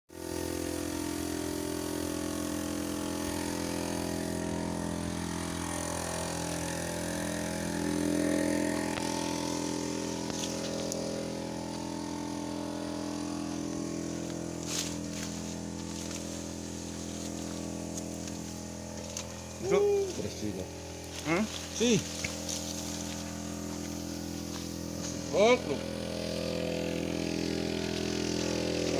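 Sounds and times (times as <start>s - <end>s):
motor humming: 0.2s - 28.9s.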